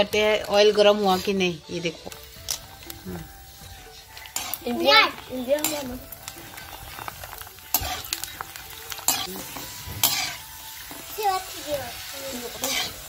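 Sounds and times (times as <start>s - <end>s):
food sizzling in hot oil: 0.0s - 13.0s
metal spoon scraping pan: 0.2s - 4.8s, 5.6s - 11.0s, 12.5s - 13.0s.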